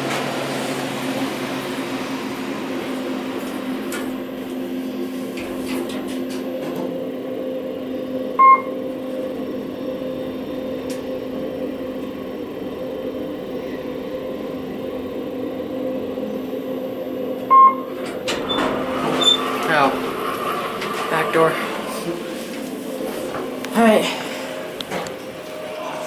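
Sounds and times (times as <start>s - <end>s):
elevator hum: 0.0s - 26.0s.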